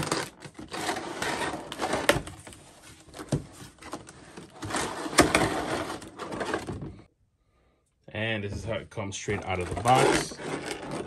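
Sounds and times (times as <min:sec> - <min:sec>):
cardboard and plastic scraping: 0:00.0 - 0:07.1, 0:08.5 - 0:11.0.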